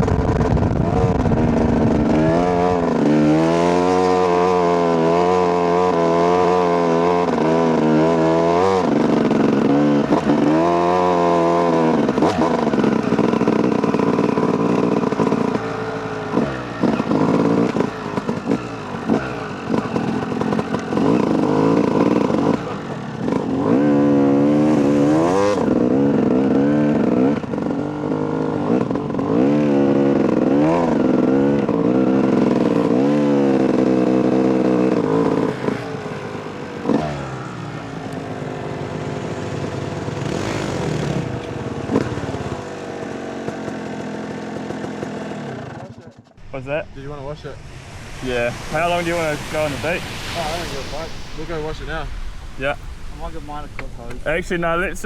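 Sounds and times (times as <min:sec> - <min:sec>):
dirt bike engine revving: 0:00.0 - 0:46.2.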